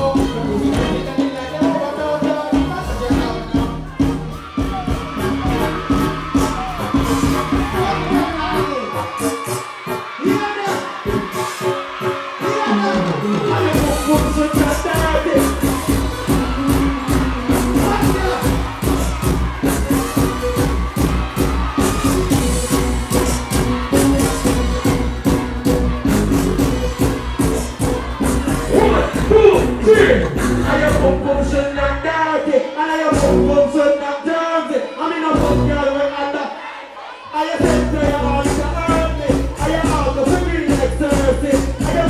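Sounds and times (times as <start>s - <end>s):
backing track with heavy bass: 0.0s - 32.4s, 33.0s - 33.9s, 35.3s - 36.1s, 37.6s - 42.0s
loud music with heavy beat: 0.0s - 34.0s, 35.2s - 36.1s, 37.6s - 42.0s
crowd noise: 0.0s - 42.0s.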